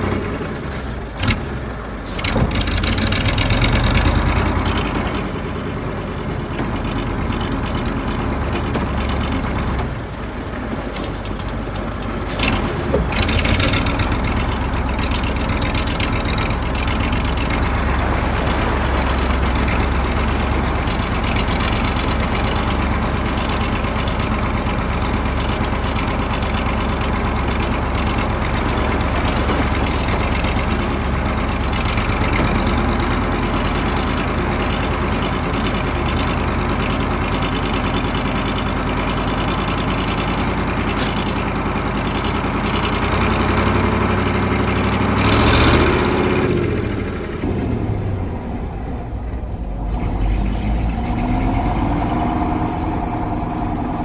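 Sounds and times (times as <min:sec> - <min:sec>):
diesel truck engine driving: 0:00.0 - 0:54.0.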